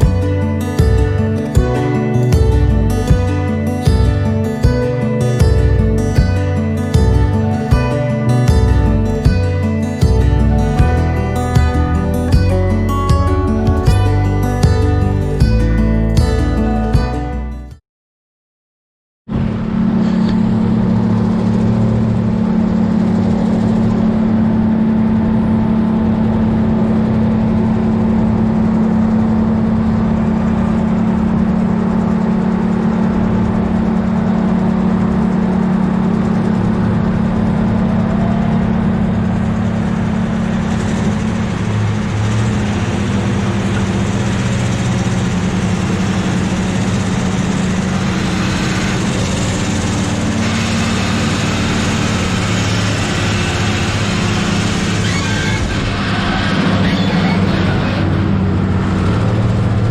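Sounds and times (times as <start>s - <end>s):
diesel engine droning: 0.0s - 17.8s, 19.3s - 59.9s.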